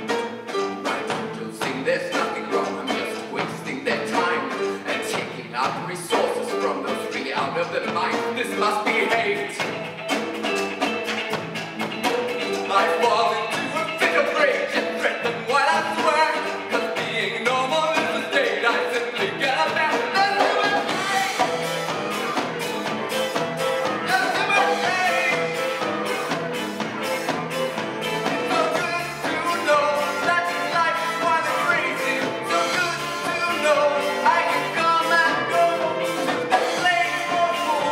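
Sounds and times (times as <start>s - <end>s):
live folk ensemble: 0.0s - 37.9s
percussion beat: 0.0s - 37.9s.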